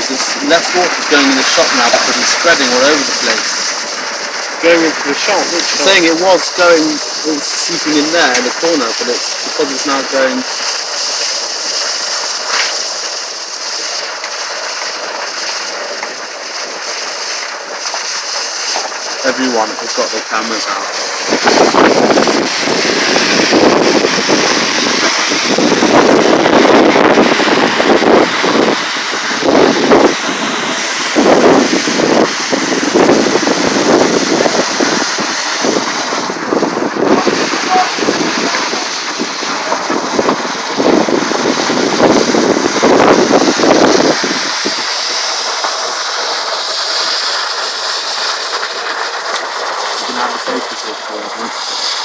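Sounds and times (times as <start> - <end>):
water rushing and splashing: 0.0 - 52.0.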